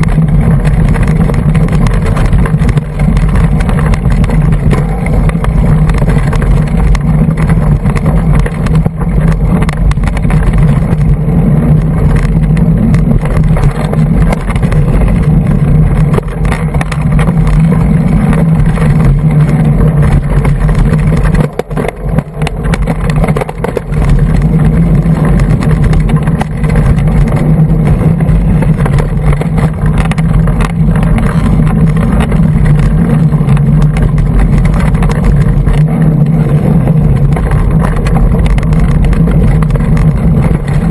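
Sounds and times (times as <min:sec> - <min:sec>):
bike clicks and rattles: 0:00.0 - 0:40.9
wind rumble on microphone: 0:00.0 - 0:40.9.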